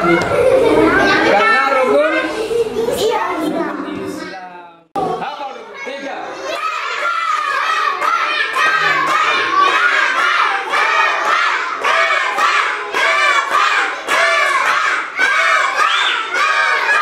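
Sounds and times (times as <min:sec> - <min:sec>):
children shouting and cheering: 0:00.0 - 0:04.2, 0:05.1 - 0:17.0.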